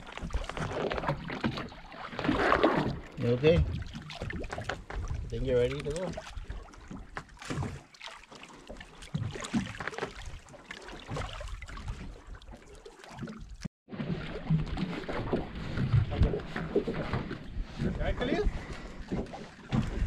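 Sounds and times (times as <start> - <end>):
splashes and knocks: 0.0 - 20.0
water lapping against boat: 0.0 - 20.0.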